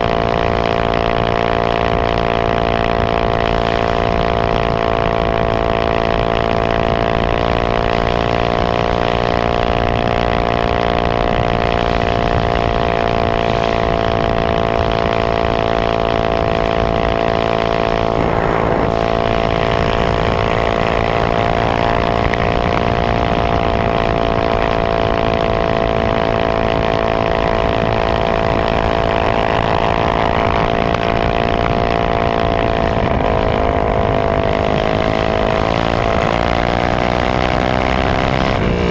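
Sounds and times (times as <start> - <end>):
small engine running: 0.0 - 38.9
wind noise: 0.0 - 38.9.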